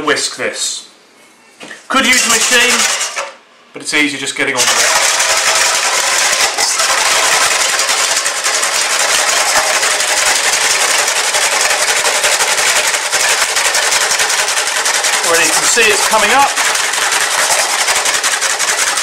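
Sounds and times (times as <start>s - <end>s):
wire whisk beating in a bowl: 2.1s - 3.2s, 4.6s - 19.0s.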